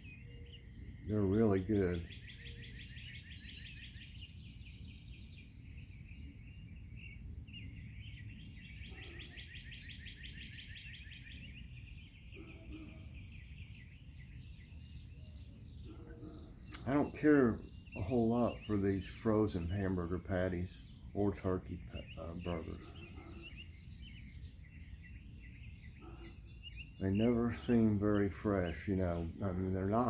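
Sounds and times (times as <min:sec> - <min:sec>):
songbirds trilling: 0:00.0 - 0:30.0.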